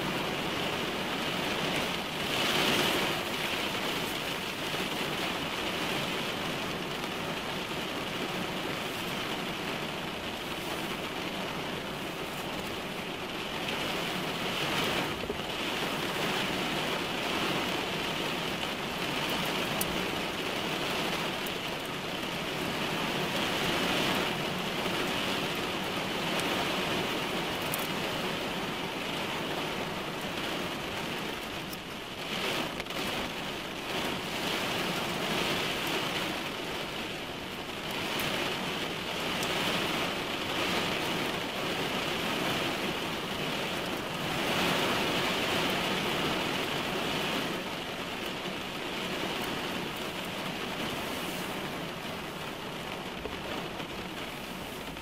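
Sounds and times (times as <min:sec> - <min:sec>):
rain on car roof: 0:00.0 - 0:55.0
raindrops hitting glass: 0:00.0 - 0:55.0.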